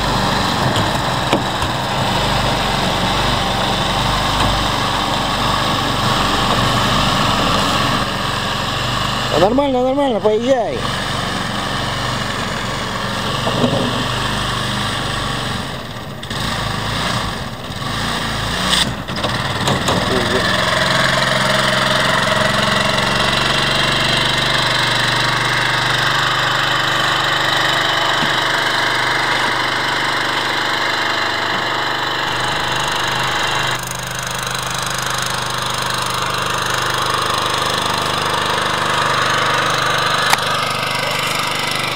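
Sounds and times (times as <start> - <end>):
small outboard motor running: 0.0 - 41.9.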